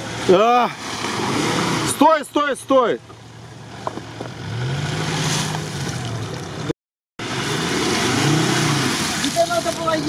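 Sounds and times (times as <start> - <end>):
churning mud and water: 0.0 - 10.0
off-road engine revving: 0.0 - 10.0.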